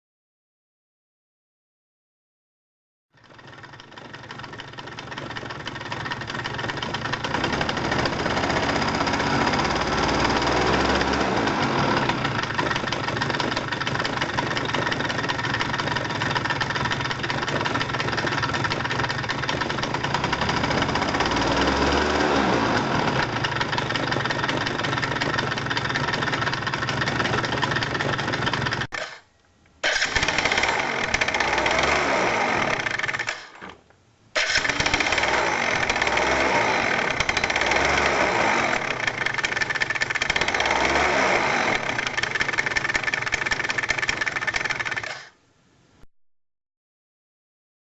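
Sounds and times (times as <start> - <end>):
scooter engine idling: 3.2 - 29.2, 29.8 - 33.6, 34.4 - 45.4.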